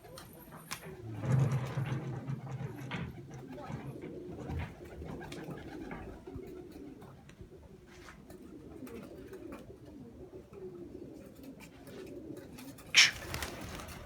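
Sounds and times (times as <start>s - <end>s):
pigeons cooing: 2.6s - 14.0s.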